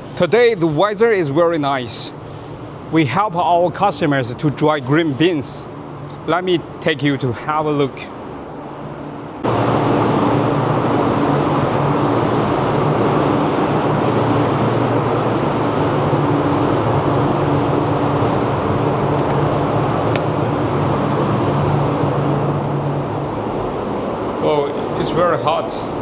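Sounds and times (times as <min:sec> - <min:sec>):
dryer fans whirring hum: 0:00.0 - 0:26.0.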